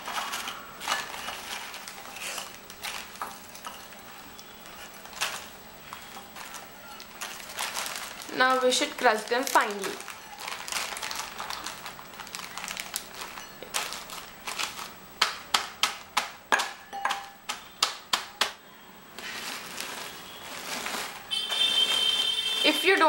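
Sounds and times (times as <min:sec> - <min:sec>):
plastic bag crinkling: 0:00.0 - 0:15.0, 0:19.1 - 0:23.0
rolling pin crunching over bag: 0:00.0 - 0:15.4, 0:19.2 - 0:23.0
rolling pin pounding biscuits: 0:00.0 - 0:18.6.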